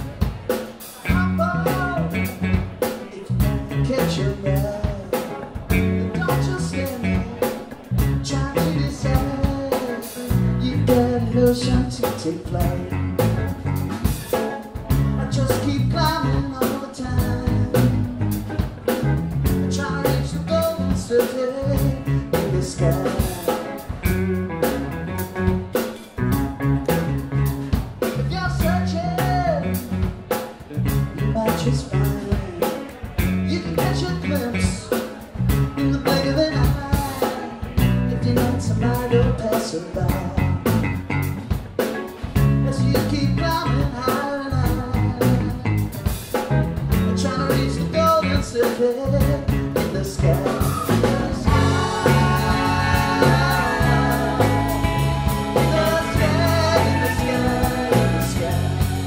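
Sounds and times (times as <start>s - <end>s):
electric bass: 0.0s - 0.4s, 1.0s - 59.0s
drum kit: 0.0s - 59.0s
electric guitars: 0.0s - 59.0s.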